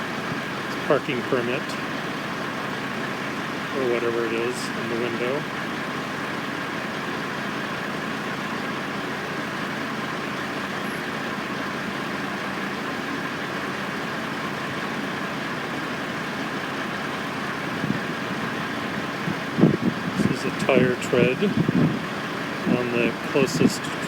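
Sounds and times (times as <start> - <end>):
constant machine whine: 0.0 - 24.0
machinery engine running: 0.0 - 24.0.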